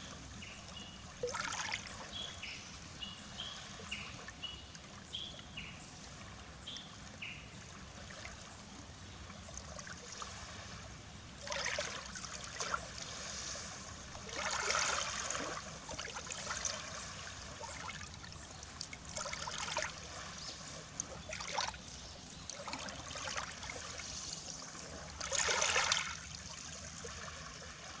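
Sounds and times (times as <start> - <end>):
small waves lapping on shore: 0.0 - 28.0.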